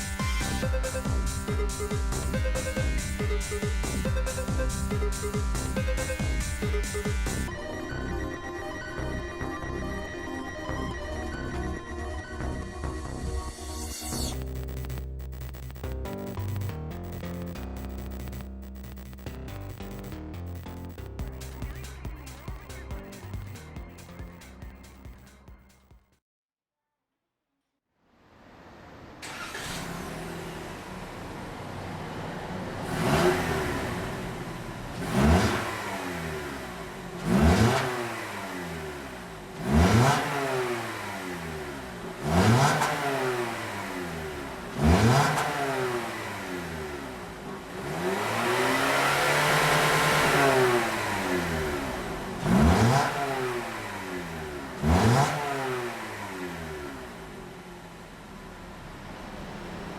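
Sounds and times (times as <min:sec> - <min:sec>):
car engine revving: 0:00.0 - 0:07.5, 0:14.1 - 0:25.4, 0:28.3 - 0:59.9.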